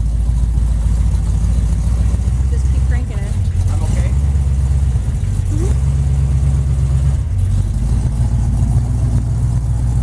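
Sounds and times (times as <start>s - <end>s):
truck engine droning: 0.0s - 10.0s.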